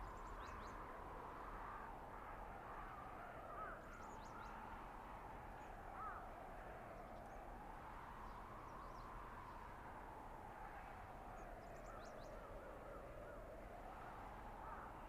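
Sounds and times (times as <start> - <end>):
blizzard wind: 0.0 - 15.0.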